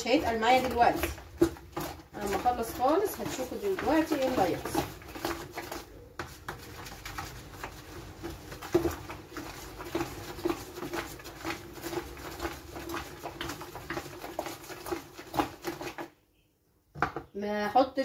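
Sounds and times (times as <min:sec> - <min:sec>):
wooden spoon stirring thick liquid: 0:00.0 - 0:16.4.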